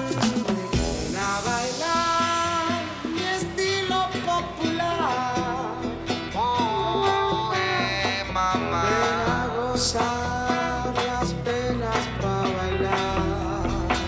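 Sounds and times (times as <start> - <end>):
song with singing and guitar: 0.0 - 14.0.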